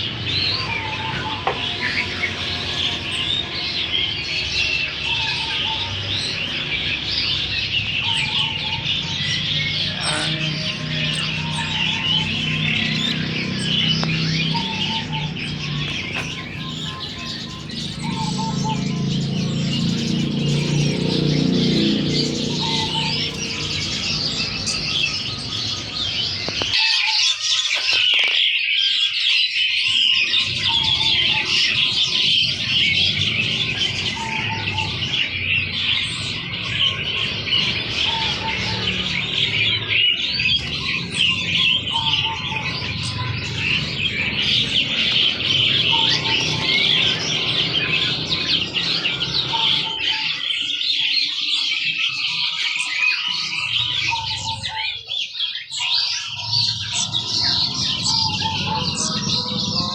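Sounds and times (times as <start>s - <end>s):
caged songbirds chirping: 0.0s - 59.9s.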